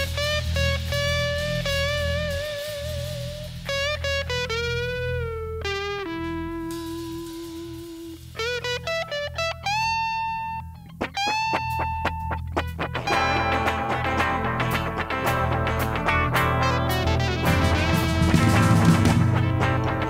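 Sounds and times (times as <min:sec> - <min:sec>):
electric guitar lead: 0:00.0 - 0:20.0
low backing music: 0:00.0 - 0:20.0.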